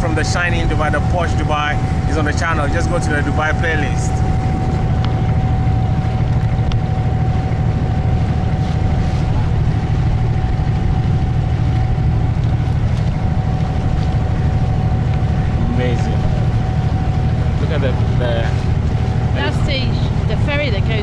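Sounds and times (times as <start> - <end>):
boat diesel engine drone: 0.0 - 21.0.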